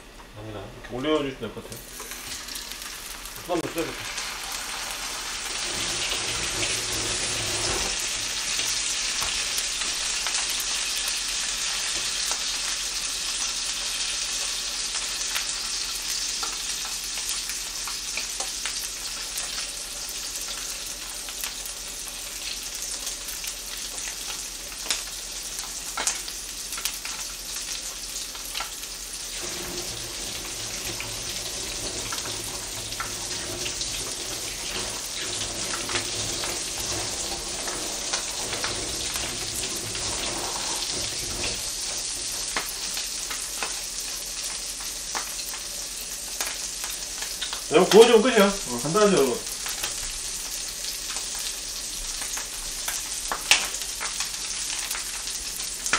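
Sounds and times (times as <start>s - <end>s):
fish sizzling in a pan: 1.8s - 55.9s.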